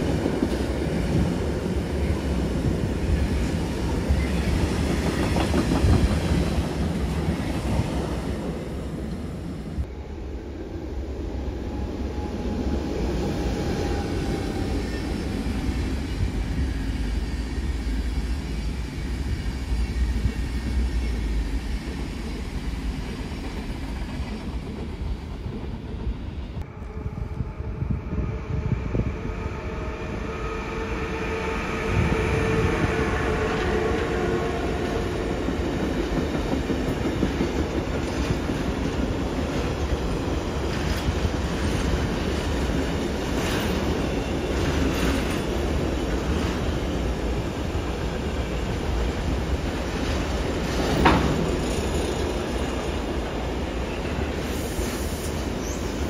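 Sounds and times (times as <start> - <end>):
trains rumbling on rails: 0.0 - 56.0.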